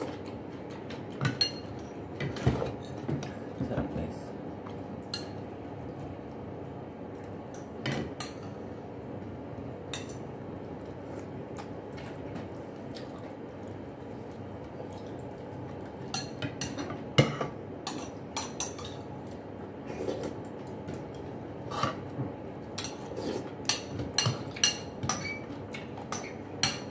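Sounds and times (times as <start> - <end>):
steady background hum: 0.0 - 26.9.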